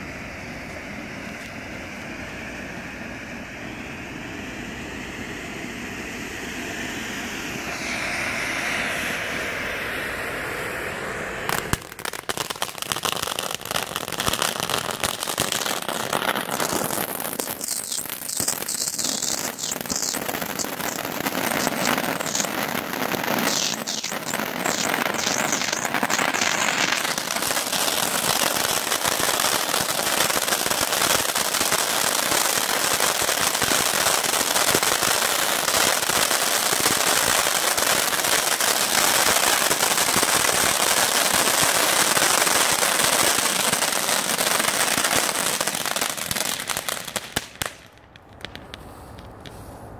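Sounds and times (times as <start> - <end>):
firework fountain hissing and crackling: 0.0 - 49.9.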